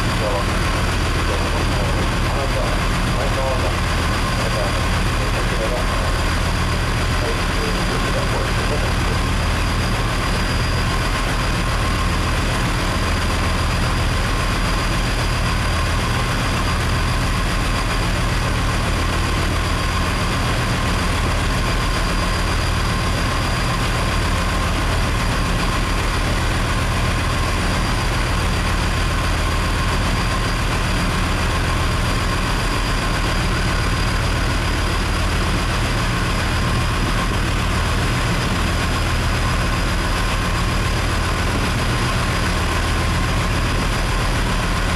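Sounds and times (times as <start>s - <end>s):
boat engine rumbling: 0.0s - 44.9s
faint steady whine: 0.0s - 44.9s.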